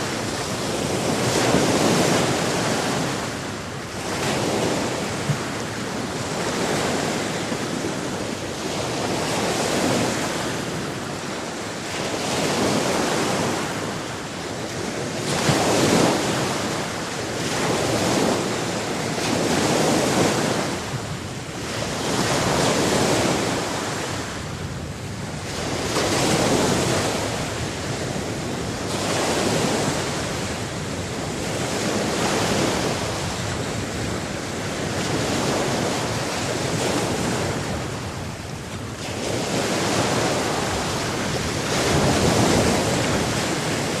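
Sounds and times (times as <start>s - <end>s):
sea surf washing: 0.0s - 44.0s.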